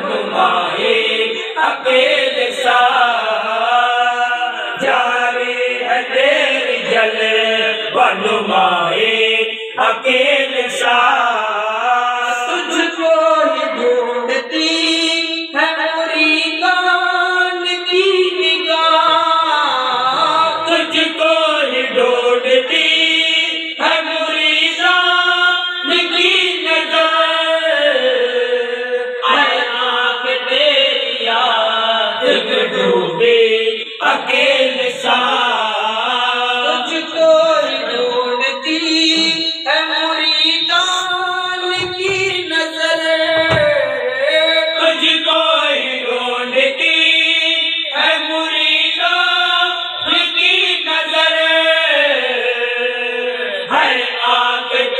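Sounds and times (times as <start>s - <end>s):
men chanting a hymn: 0.0s - 54.9s.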